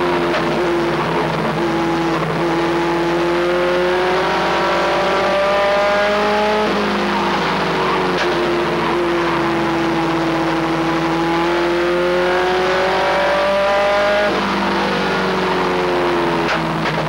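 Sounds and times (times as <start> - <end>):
truck engine racing: 0.0 - 17.0.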